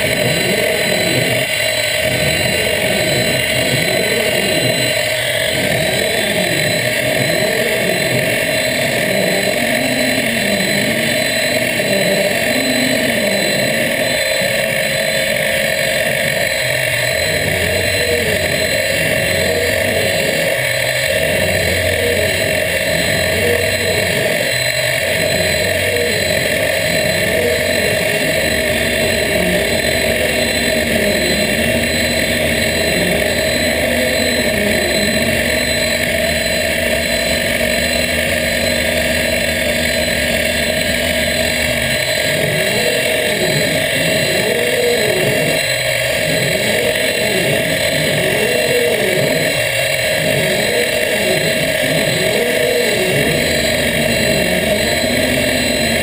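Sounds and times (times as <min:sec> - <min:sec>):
low motor hum: 0:00.0 - 0:56.0
milling spindle whine: 0:00.0 - 0:56.0.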